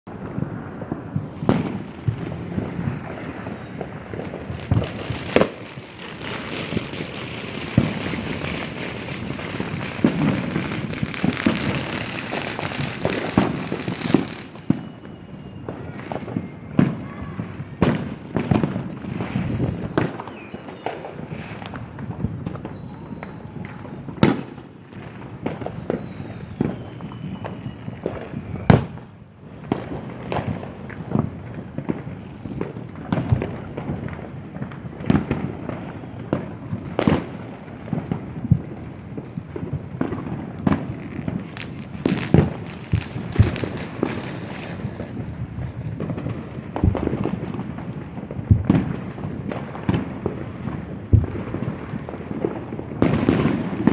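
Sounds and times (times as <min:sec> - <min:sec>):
fireworks bangs and pops: 0:00.1 - 0:53.9
fireworks falling whistles: 0:00.1 - 0:53.9.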